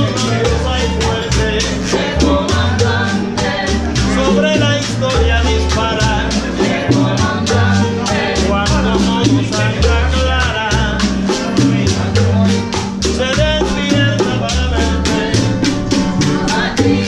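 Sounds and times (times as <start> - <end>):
hand percussion beat: 0.0 - 17.0
man singing: 0.0 - 17.0
strummed acoustic guitars: 0.0 - 17.0
upright bass plucking: 0.0 - 17.0.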